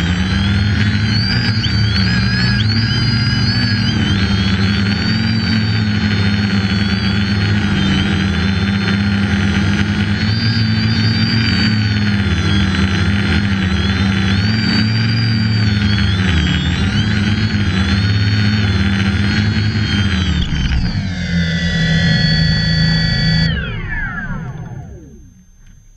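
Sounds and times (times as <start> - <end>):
quadcopter propeller drone and whine: 0.0 - 25.9.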